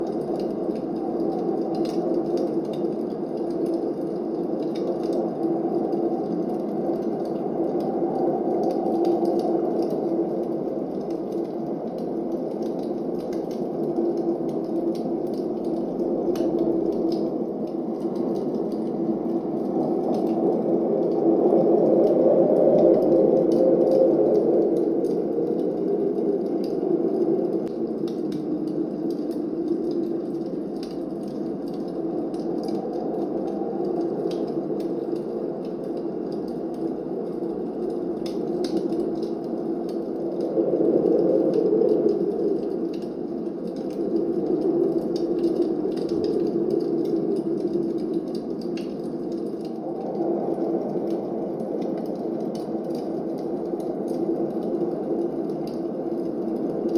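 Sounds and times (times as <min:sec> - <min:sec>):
blizzard wind blowing: 0:00.0 - 0:56.9
fireplace crackling: 0:00.0 - 0:56.9.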